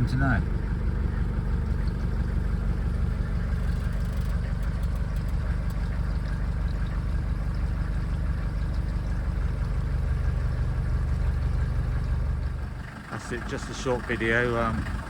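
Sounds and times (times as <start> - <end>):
diesel engine idling with clatter: 0.0 - 15.0.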